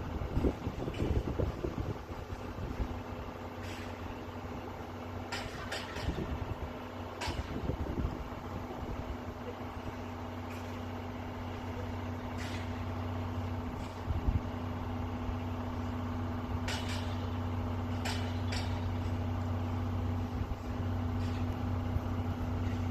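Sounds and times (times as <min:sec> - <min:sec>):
electric train hum: 0:00.0 - 0:22.9.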